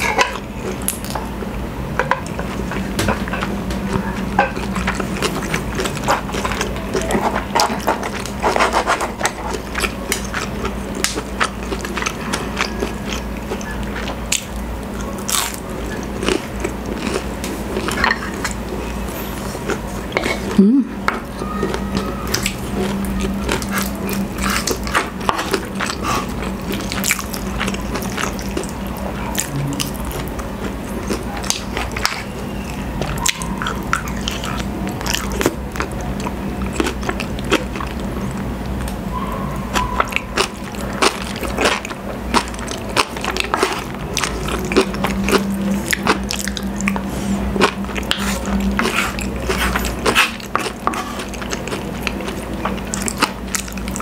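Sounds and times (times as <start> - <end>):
chewing: 2.2 - 54.0.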